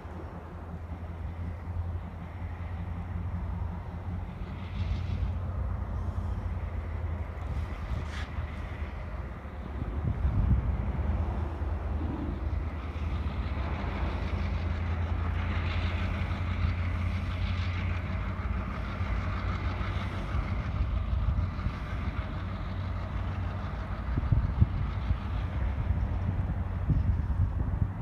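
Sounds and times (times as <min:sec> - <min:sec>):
diesel locomotive droning: 0:00.0 - 0:28.0
wheels hissing on rail: 0:00.0 - 0:28.0.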